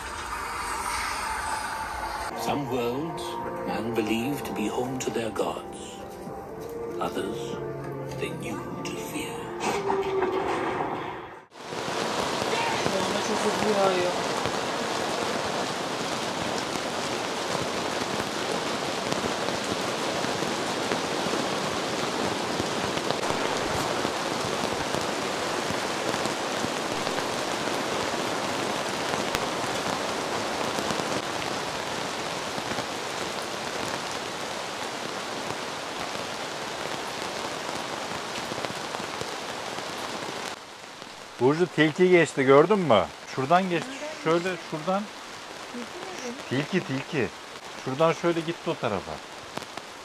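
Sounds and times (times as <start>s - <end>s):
heavy rain downpour: 0.0s - 6.2s, 8.1s - 50.0s.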